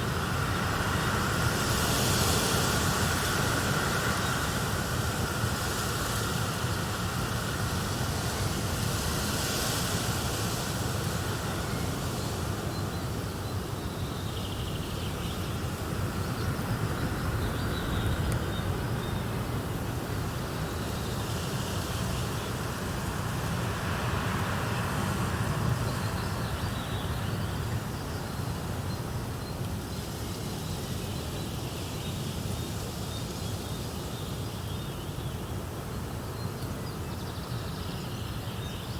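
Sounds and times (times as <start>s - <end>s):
outdoor nature ambience: 0.0s - 38.9s.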